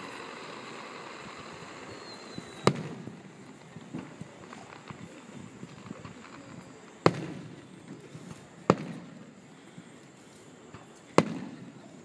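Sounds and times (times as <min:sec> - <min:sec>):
firework shells booming: 0:00.0 - 0:09.4, 0:10.7 - 0:12.0.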